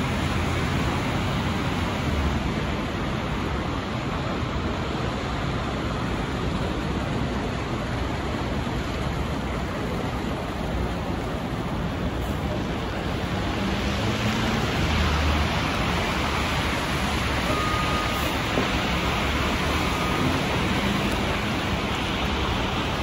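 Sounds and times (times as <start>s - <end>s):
bus engine rumble: 0.0s - 23.0s.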